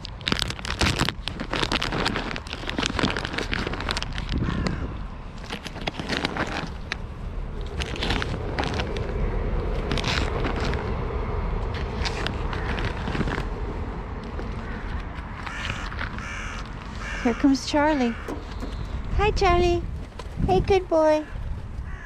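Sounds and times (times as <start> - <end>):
wind buffeting microphone: 2.6 - 22.0.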